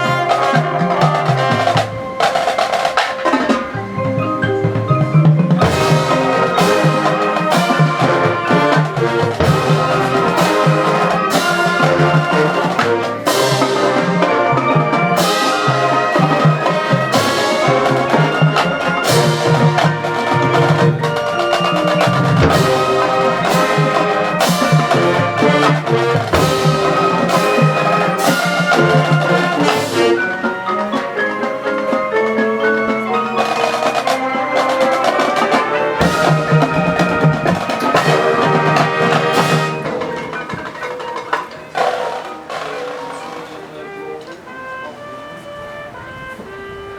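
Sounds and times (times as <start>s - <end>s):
marimba and glockenspiel: 0.0s - 46.0s
drums: 0.0s - 46.9s
marching band playing: 0.0s - 46.9s.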